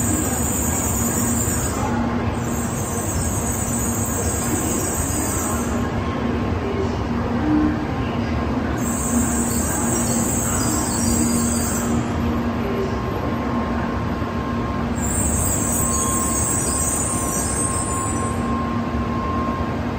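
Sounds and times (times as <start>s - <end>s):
high squeal of train: 0.0s - 19.9s
train rumbling into station: 0.0s - 19.9s.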